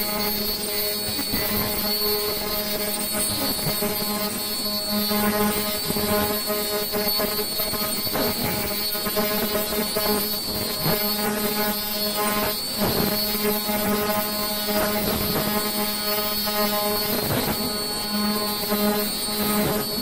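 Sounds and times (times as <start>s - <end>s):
machine mechanical drone: 0.0s - 20.0s
steady humming tones: 0.0s - 20.0s.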